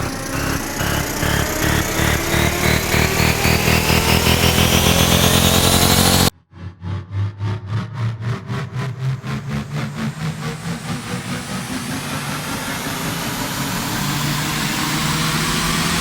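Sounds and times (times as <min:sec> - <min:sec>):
synthesized pulsing riser: 0:00.0 - 0:16.0.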